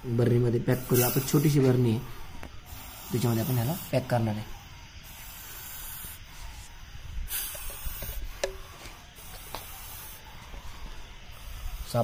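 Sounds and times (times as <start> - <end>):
snake hissing: 0.0 - 12.0.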